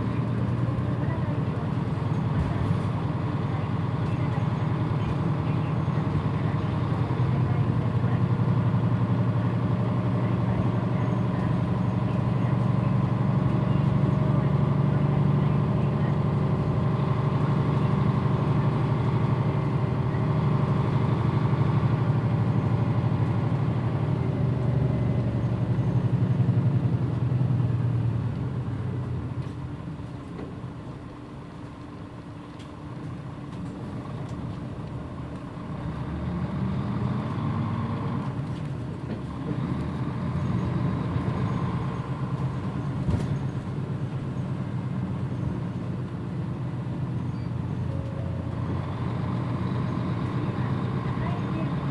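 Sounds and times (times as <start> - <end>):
bus diesel engine under load: 0.0 - 51.9.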